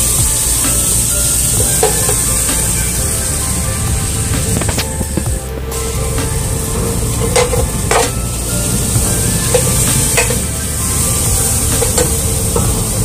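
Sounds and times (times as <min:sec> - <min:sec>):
food sizzling in pan: 0:00.0 - 0:13.0.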